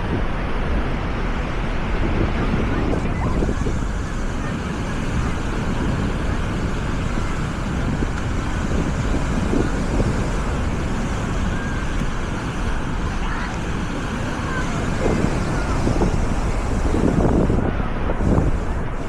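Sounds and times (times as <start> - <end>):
indistinct crowd voices: 0.0 - 19.0
surf washing: 0.0 - 19.0
wind rumbling on microphone: 0.0 - 19.0.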